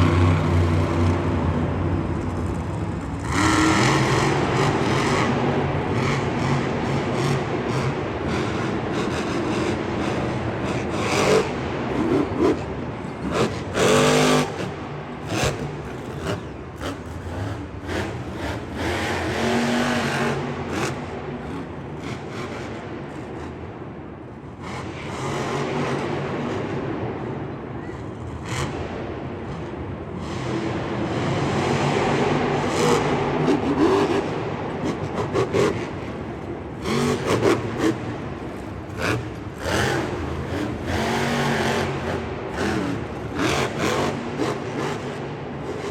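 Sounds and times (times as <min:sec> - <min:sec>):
vehicle engines revving: 0:00.0 - 0:45.9.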